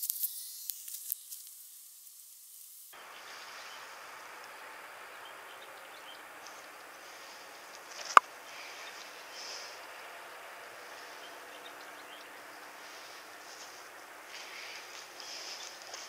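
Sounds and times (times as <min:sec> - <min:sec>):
outdoor hiss: 0:00.0 - 0:16.0.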